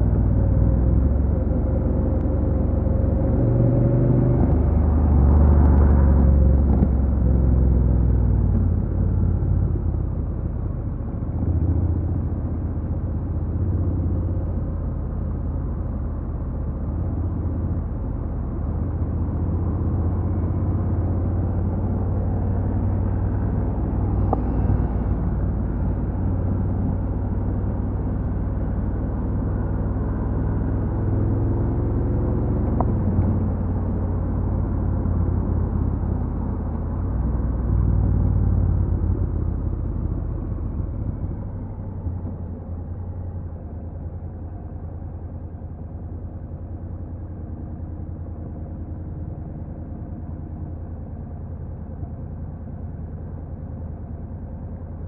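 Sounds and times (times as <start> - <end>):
motorcycle engine drone: 0.0 - 55.0.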